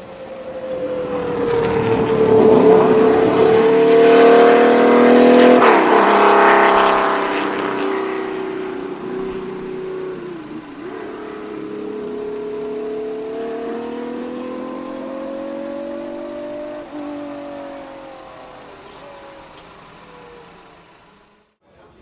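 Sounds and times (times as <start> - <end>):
racing engine accelerating: 0.0 - 21.6.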